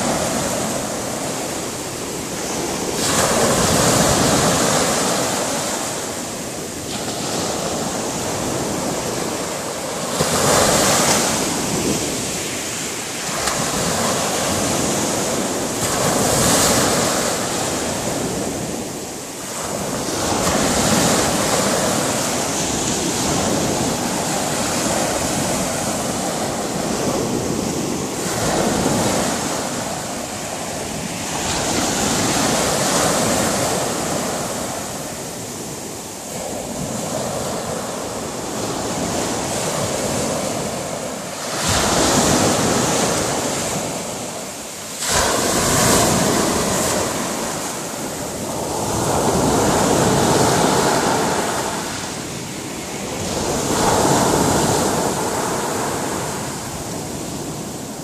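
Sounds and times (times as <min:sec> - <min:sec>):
sea waves breaking on beach: 0:00.0 - 0:58.0.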